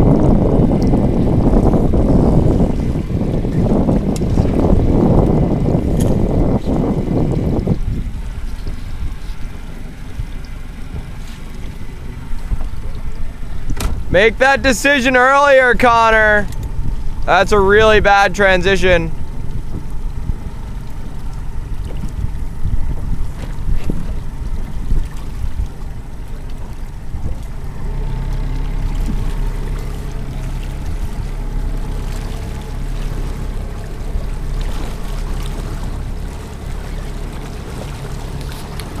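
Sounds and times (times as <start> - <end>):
boat engine hum: 0.0 - 39.0
water rushing along hull: 0.0 - 39.0
wind buffeting: 0.0 - 39.0.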